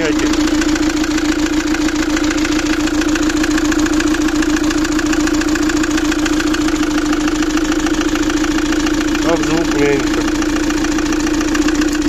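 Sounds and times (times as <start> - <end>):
diesel engine knocking: 0.0 - 12.0.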